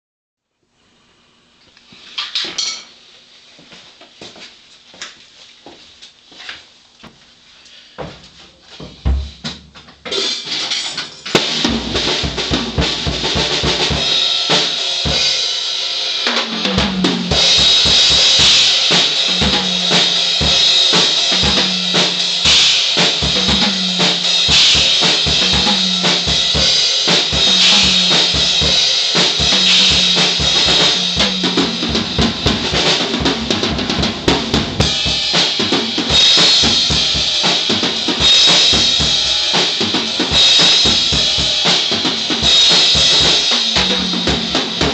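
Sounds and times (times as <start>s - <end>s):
drum kit groove: 8.2s - 44.9s.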